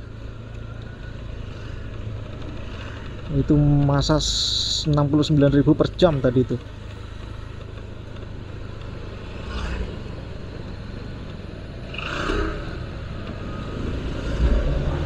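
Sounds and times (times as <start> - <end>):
low engine rumble of traffic: 0.0 - 15.0
vehicles passing: 0.0 - 15.0.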